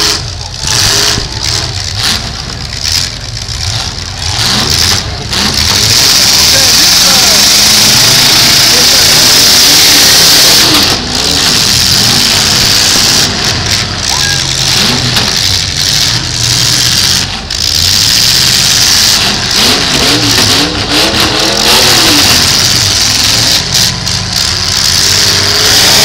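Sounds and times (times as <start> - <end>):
car engines revving hard: 0.0 - 26.0.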